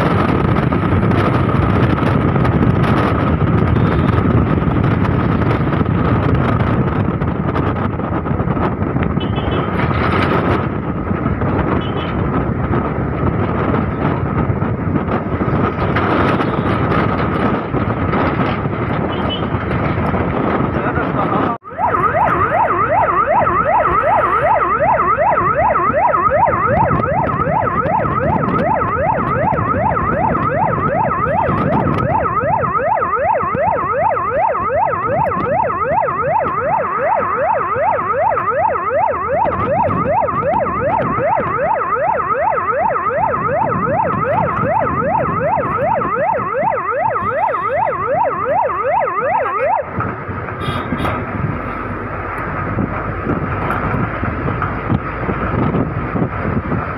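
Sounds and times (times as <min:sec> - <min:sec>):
siren yelping: 0:00.0 - 0:56.9
vehicle engine and road noise: 0:00.0 - 0:56.9.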